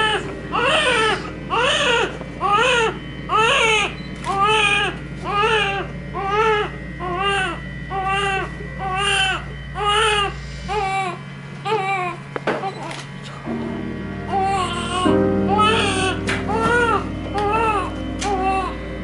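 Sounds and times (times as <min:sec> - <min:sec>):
newborn baby crying: 0:00.0 - 0:12.2, 0:14.3 - 0:18.8.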